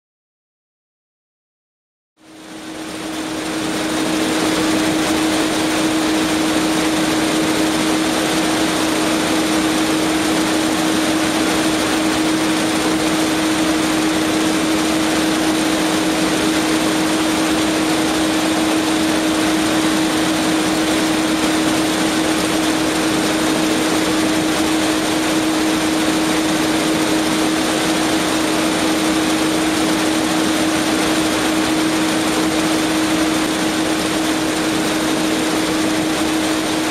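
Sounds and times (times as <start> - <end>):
constant machine hum: 2.2 - 36.9.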